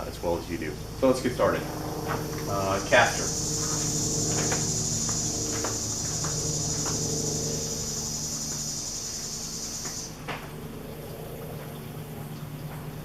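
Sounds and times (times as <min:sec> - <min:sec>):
high-pitched insect drone: 0:00.0 - 0:12.1
low steady hum: 0:00.0 - 0:13.0.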